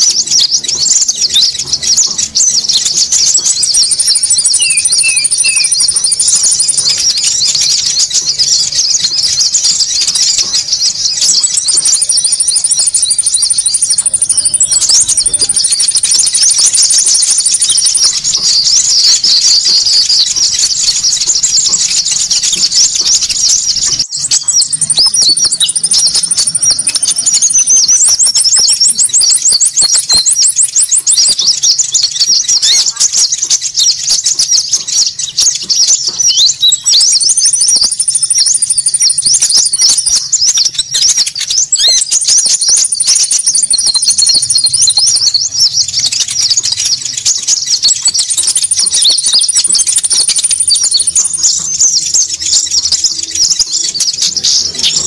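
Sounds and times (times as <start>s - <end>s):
fast bird trill: 0.0s - 55.0s
small birds chattering and twittering: 0.0s - 55.0s.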